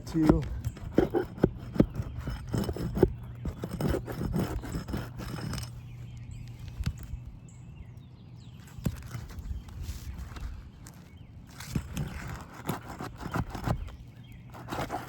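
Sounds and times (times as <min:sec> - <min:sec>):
roofing tool scraping shingles: 0:00.0 - 0:05.8, 0:08.7 - 0:15.0.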